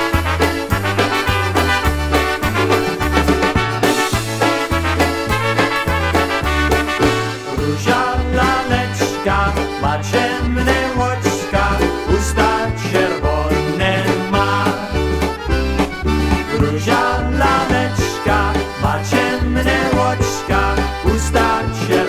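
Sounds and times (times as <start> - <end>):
bouncing bass beat: 0.0 - 22.0
dance band playing: 0.0 - 22.0.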